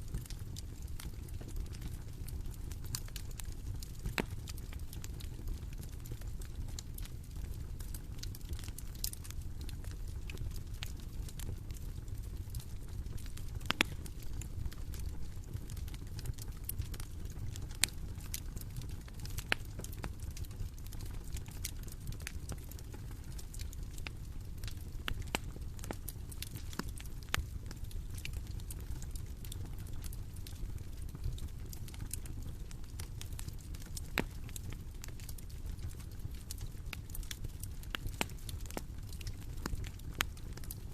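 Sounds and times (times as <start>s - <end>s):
bonfire crackling: 0.0s - 40.9s.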